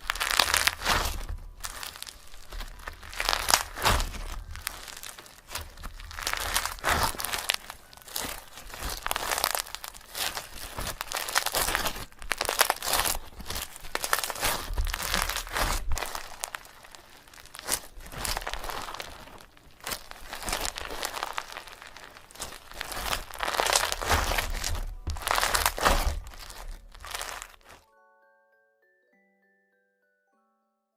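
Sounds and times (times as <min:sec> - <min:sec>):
dry crinkling and rustling: 0:00.0 - 0:27.8.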